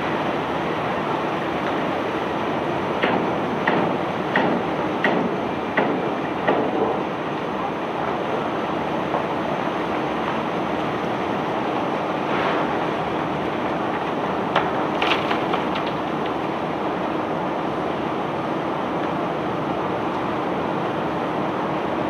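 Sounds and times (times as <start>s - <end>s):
barge machinery noise: 0.0s - 22.0s.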